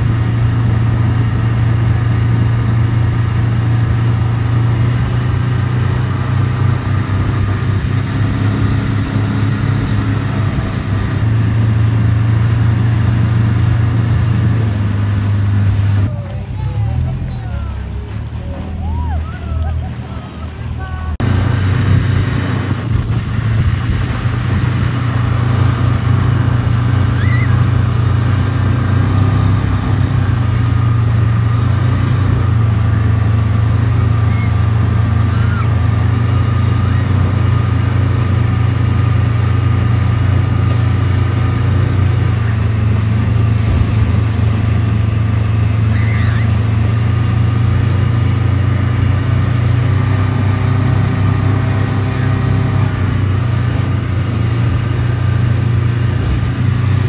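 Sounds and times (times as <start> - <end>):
rush of boat wake: 0.0 - 57.0
speedboat engine running: 0.0 - 57.0.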